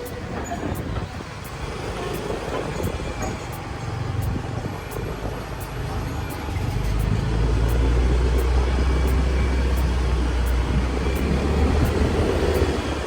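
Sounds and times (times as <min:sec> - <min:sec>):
wind on microphone: 0:00.0 - 0:06.3, 0:07.0 - 0:13.0
motorbike low rumble: 0:00.0 - 0:13.0
road noise: 0:00.0 - 0:13.0.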